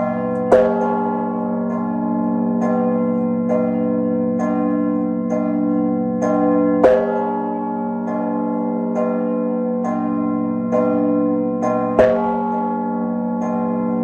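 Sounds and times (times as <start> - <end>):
big bell humming and striking: 0.0 - 14.0
church bells pealing: 0.0 - 14.0
small bells striking: 0.0 - 14.0.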